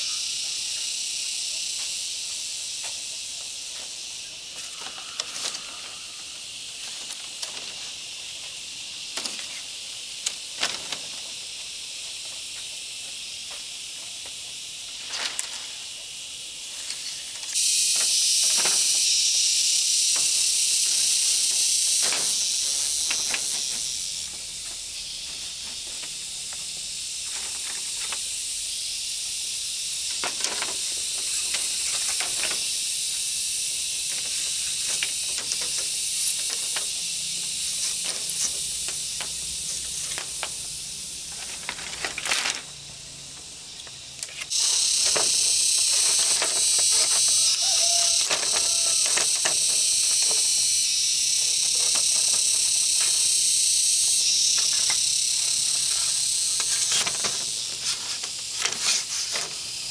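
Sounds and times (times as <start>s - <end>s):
high insect chorus: 0.0s - 59.9s.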